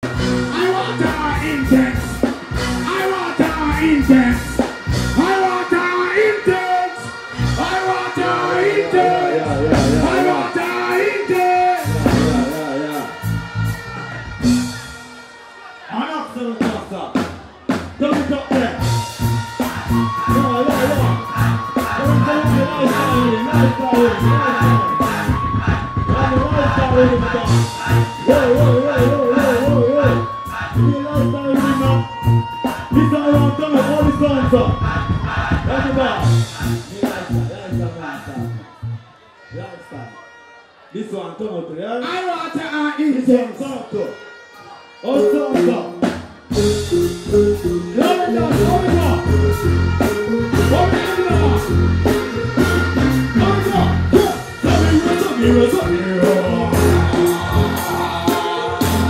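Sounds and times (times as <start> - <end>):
heavy bass line: 0.0 - 15.2, 17.9 - 39.1, 46.3 - 59.0
live band music: 0.0 - 40.9, 42.2 - 59.0
keyboard: 0.0 - 59.0.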